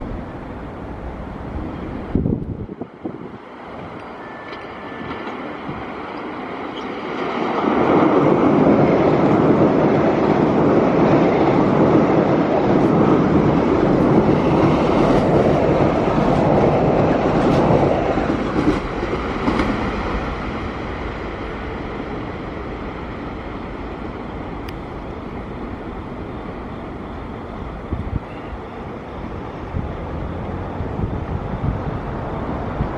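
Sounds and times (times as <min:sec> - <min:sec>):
electric train passing at speed: 0:00.0 - 0:32.9.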